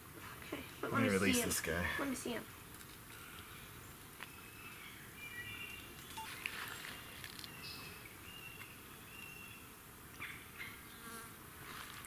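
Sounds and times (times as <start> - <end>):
faint creek ambience: 0.0 - 12.0.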